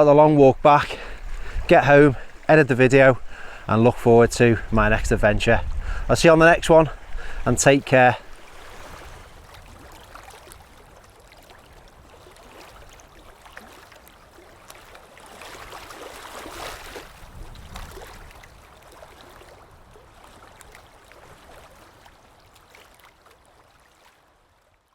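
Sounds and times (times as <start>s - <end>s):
small waves lapping on shore: 0.0s - 24.9s.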